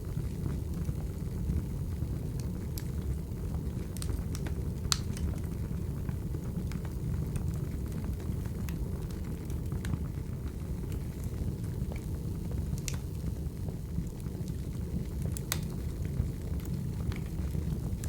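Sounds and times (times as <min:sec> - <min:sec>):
fire crackling and popping: 0:00.0 - 0:18.0
firewood burning: 0:00.0 - 0:18.0.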